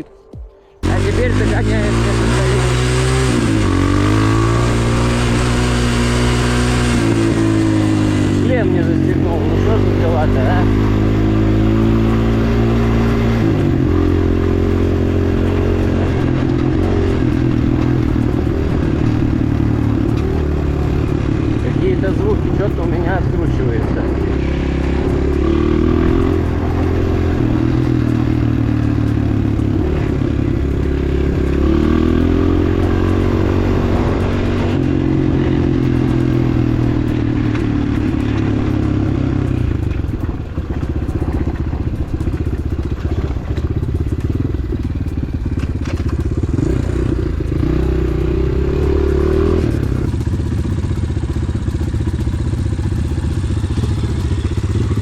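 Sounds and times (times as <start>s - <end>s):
bike rattling over bumps: 0.8s - 55.0s
motorbike engine revving: 0.8s - 55.0s.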